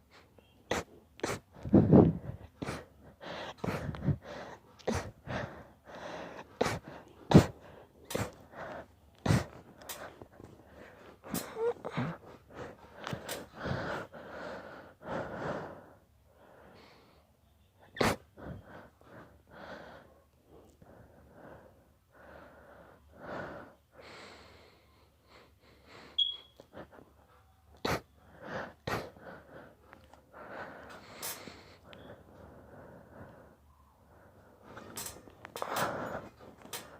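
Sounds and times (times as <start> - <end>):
noisy breaths: 0.0 - 36.9.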